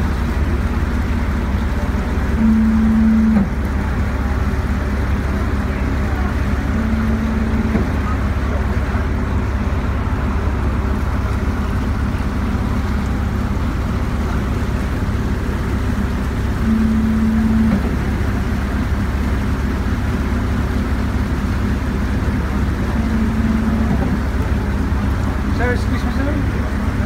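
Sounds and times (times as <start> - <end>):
steady hum: 0.0 - 25.8
boat engine droning: 0.0 - 27.0.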